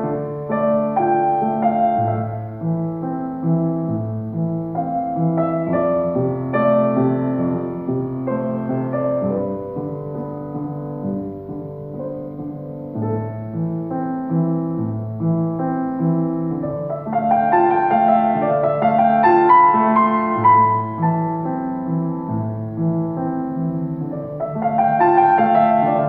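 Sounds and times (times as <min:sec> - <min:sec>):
grand piano solo: 0:00.0 - 0:26.0.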